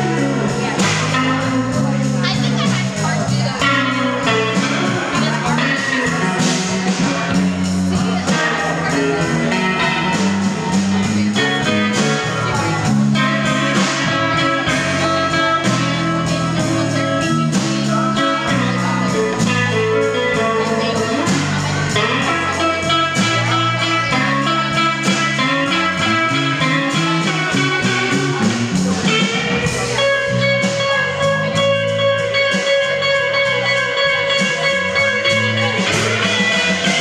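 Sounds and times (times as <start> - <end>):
drum kit: 0.0 - 37.0
electric bass: 0.0 - 37.0
electric guitar: 0.0 - 37.0.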